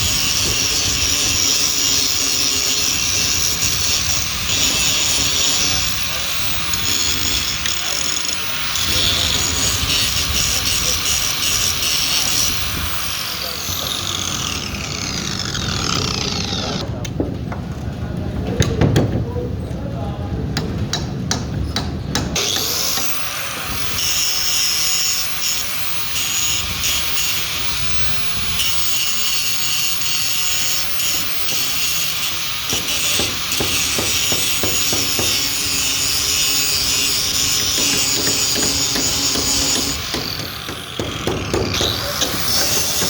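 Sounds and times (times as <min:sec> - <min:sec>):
power grinder grinding metal: 0:00.0 - 0:16.8, 0:22.4 - 0:43.0.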